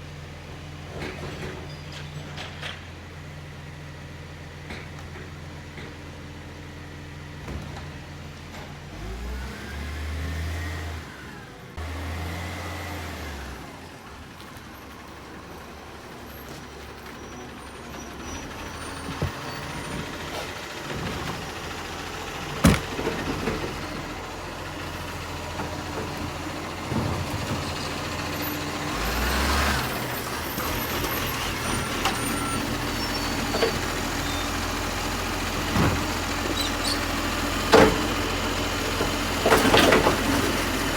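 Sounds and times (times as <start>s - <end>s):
garbage truck engine running: 0.0s - 40.9s.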